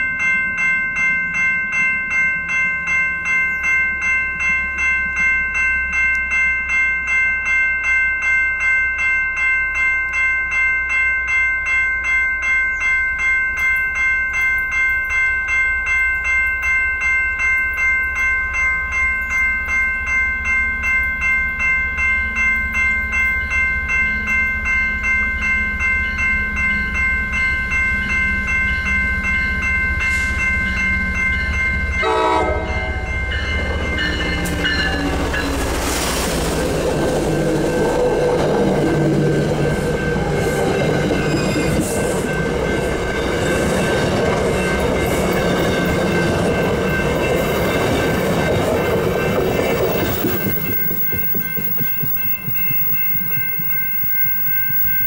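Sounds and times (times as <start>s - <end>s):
railroad crossing bell ringing: 0.0s - 55.0s.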